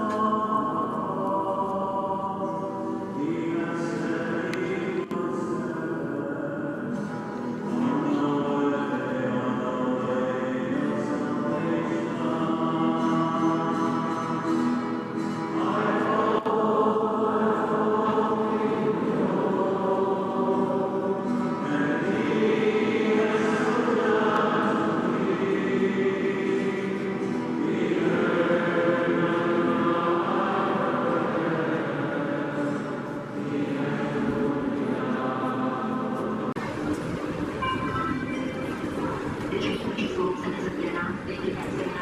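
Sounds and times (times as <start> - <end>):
choir singing held chords: 0.0 - 42.0.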